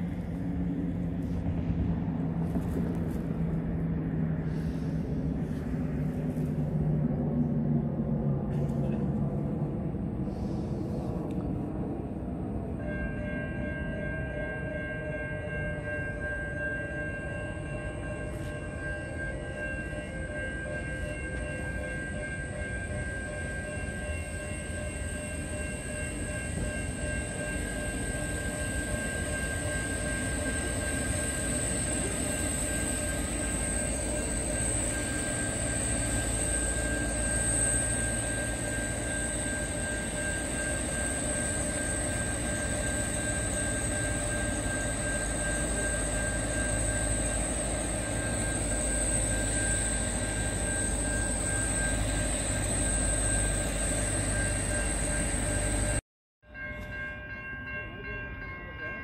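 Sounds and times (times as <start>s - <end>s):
steady high-pitched whine: 0.0s - 58.8s
diesel railcar engine and wheels rumbling: 0.0s - 59.0s.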